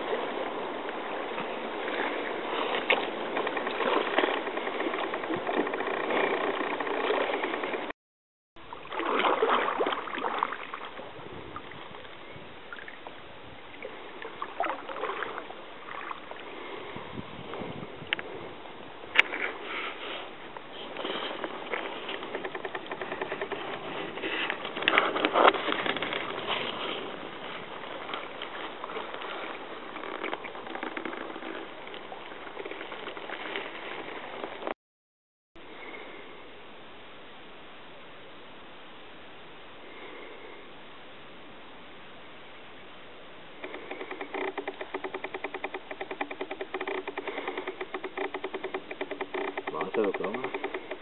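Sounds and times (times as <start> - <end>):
water lapping against canoe: 0.0 - 7.9, 8.6 - 34.8, 43.4 - 51.0.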